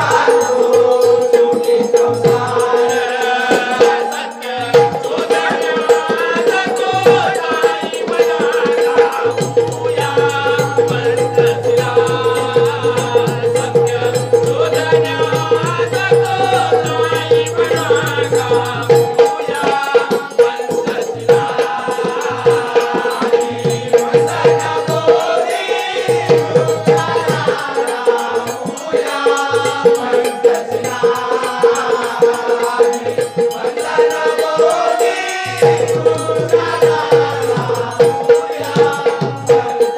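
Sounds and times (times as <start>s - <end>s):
rhythmic percussion: 0.0s - 39.9s.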